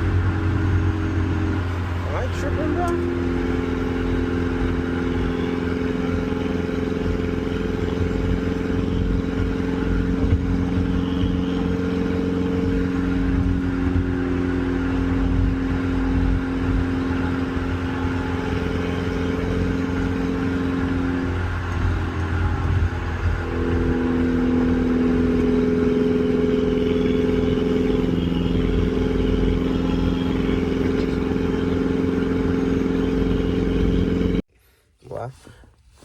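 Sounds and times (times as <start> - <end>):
car engine droning: 0.0 - 36.0
road rumble: 0.0 - 36.0.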